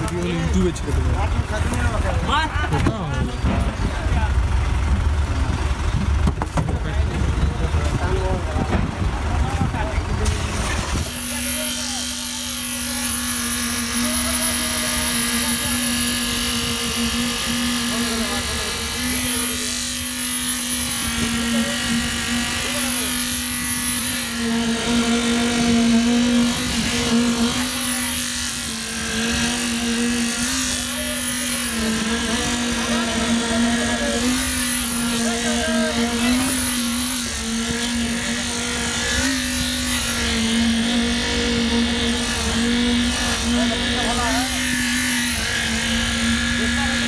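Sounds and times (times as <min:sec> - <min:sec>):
concrete vibrator humming: 0:07.4 - 0:47.0.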